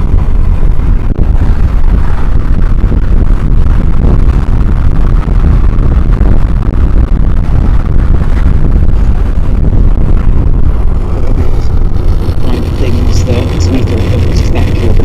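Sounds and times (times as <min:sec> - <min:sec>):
distorted harsh noise: 0:00.0 - 0:15.0.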